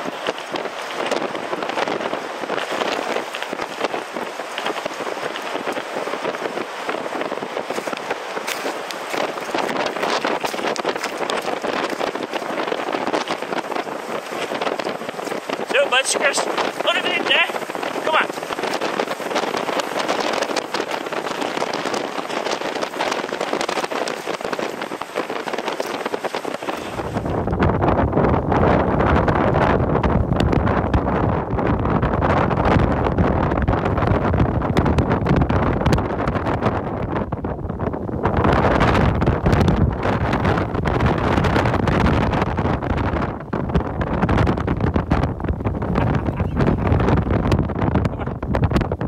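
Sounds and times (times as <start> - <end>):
storm wind buffeting microphone: 0.0 - 49.0.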